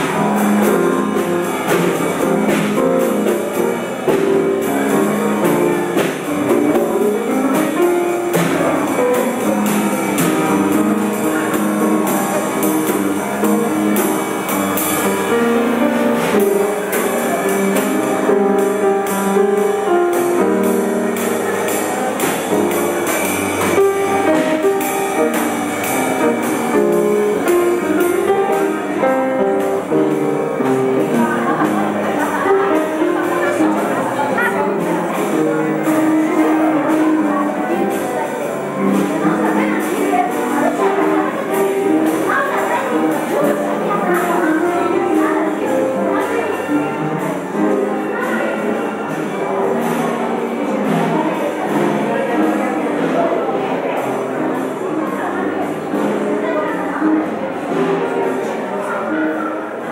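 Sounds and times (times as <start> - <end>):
drum struck with sticks: 0.0 - 56.4
upright piano: 0.0 - 59.9.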